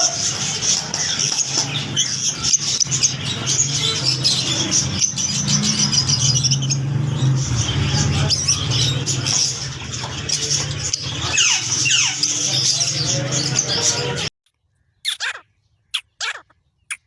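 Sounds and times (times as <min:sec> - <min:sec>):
caged birds chirping: 0:00.0 - 0:17.0.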